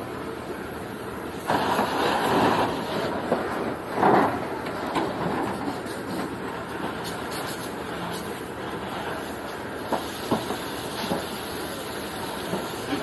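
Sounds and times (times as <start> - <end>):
fire hose spraying water: 0.4 - 13.0.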